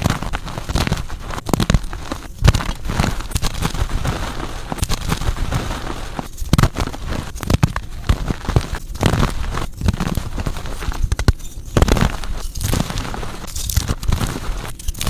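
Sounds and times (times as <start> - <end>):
chalk crushing and crunching: 0.0 - 15.0.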